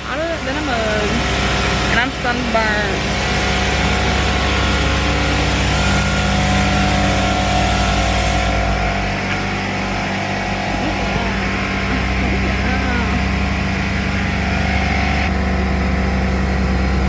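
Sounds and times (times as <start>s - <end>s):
motor running with low hum: 0.0s - 17.0s.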